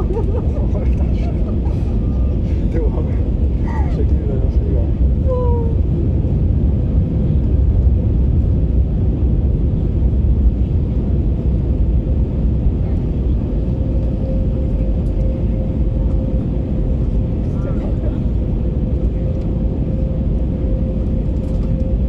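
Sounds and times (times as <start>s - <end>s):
aircraft cabin engine roar: 0.0s - 22.0s.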